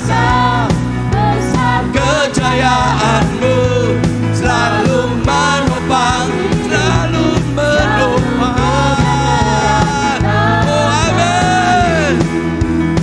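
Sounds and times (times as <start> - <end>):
band playing pop-rock song: 0.0 - 13.0
regular drum beats: 0.0 - 13.0
steady bass: 0.0 - 13.0.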